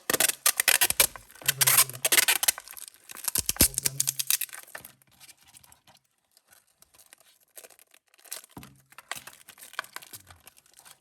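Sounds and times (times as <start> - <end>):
plastic packaging crinkling and clicking: 0.0 - 11.0.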